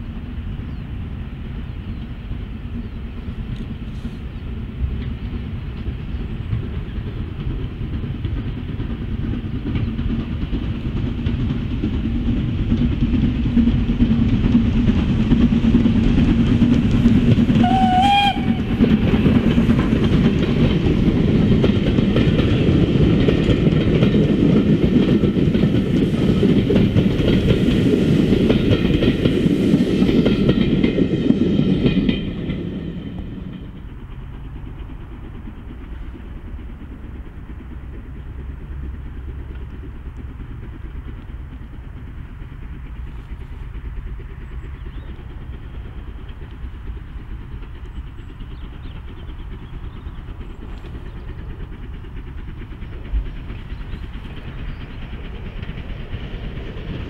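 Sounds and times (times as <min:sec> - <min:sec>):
low train rumble: 0:00.0 - 0:57.0
train wheels clattering on rails: 0:00.0 - 0:57.0.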